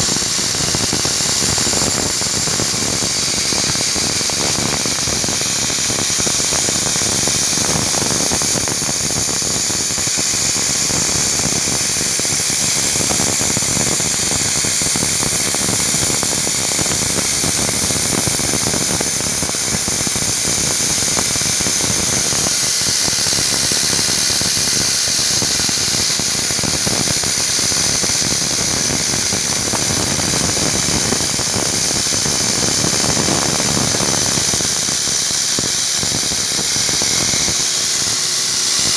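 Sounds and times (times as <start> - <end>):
milling machine hiss and whine: 0.0 - 38.9.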